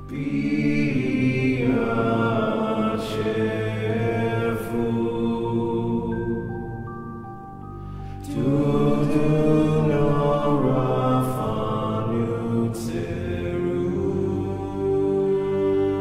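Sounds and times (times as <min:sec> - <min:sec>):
long held sung notes: 0:00.0 - 0:16.0
sustained music tones: 0:00.0 - 0:16.0.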